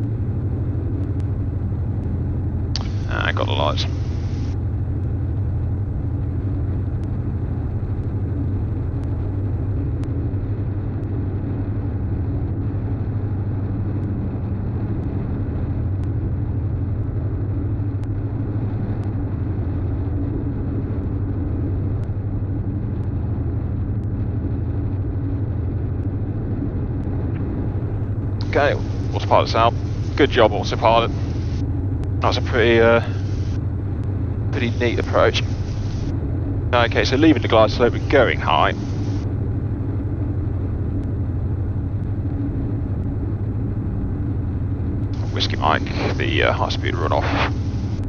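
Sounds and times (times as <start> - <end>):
aircraft engines droning: 0.0 - 48.0.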